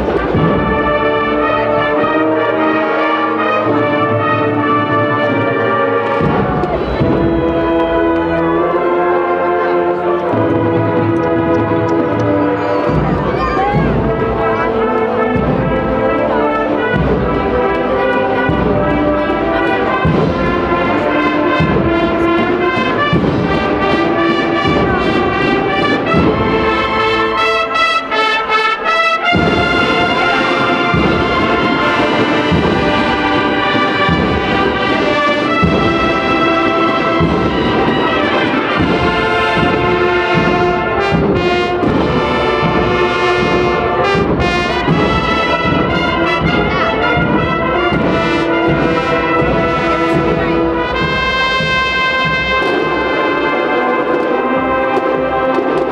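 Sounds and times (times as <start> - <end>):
brass melody: 0.0 - 55.9
steady drum beats: 0.0 - 55.9.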